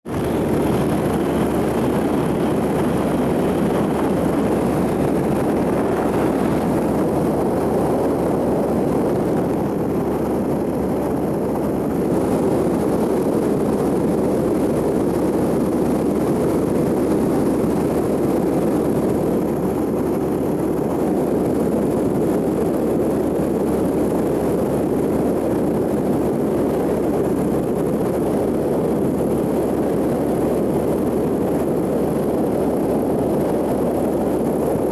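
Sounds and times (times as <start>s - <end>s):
aircraft engine droning: 0.0s - 34.9s.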